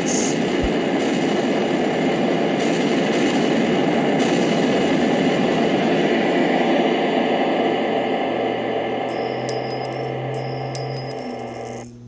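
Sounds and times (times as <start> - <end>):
loud steady rumbling: 0.0 - 12.0.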